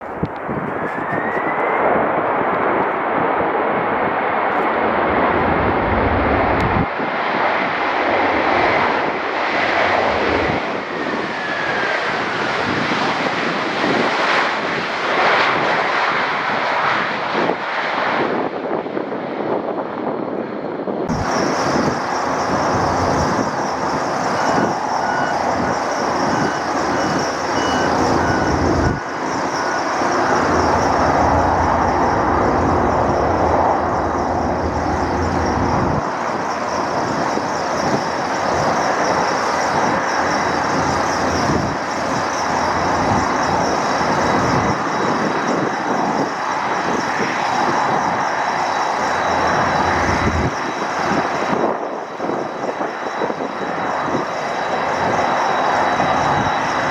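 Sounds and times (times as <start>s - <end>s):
jet engines roaring: 0.0s - 56.9s.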